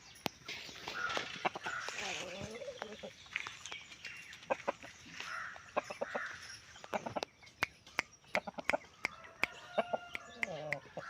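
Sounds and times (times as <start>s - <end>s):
chickens clucking: 0.5s - 11.0s.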